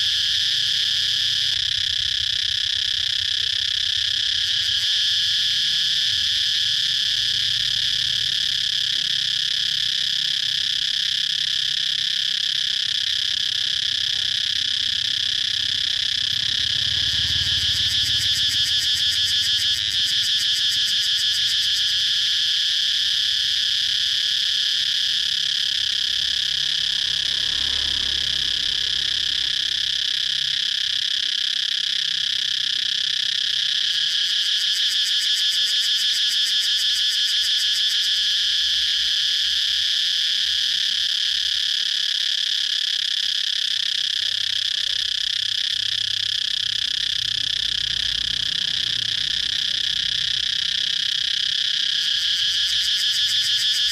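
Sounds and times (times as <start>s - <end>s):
cicadas buzzing: 0.0s - 53.9s.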